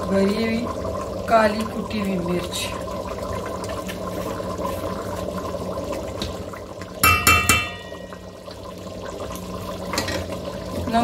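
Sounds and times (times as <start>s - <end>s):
stock bubbling in a pot: 0.0s - 11.0s.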